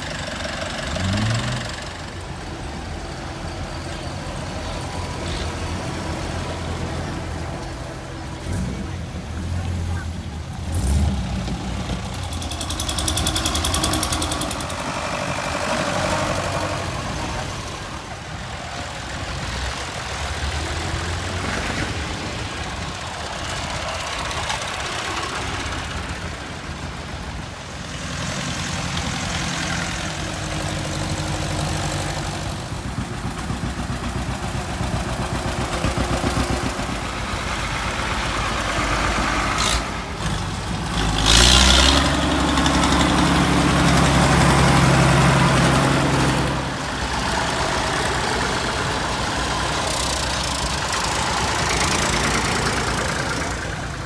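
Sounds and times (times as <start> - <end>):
tractor engines passing: 0.0 - 54.0.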